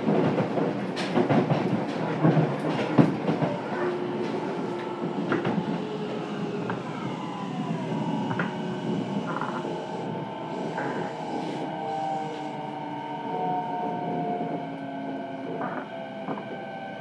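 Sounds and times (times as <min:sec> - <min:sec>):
wheels rumbling on track: 0:00.0 - 0:16.8
train inverter whining: 0:00.0 - 0:17.0.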